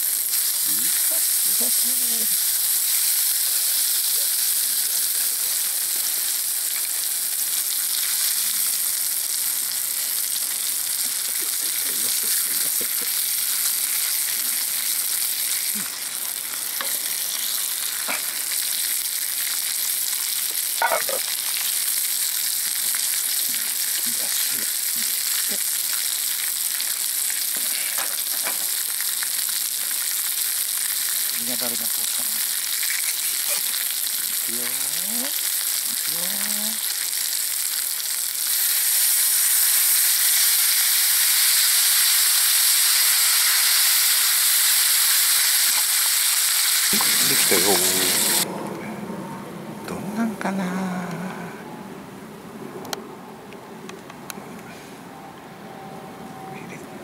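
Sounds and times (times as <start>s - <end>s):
steak sizzling in a skillet: 0.0s - 48.5s.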